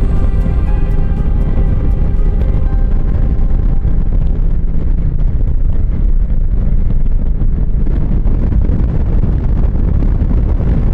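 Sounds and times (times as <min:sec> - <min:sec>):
motorcycle engine rumbling: 0:00.0 - 0:08.8
wind buffeting microphone: 0:00.0 - 0:10.9.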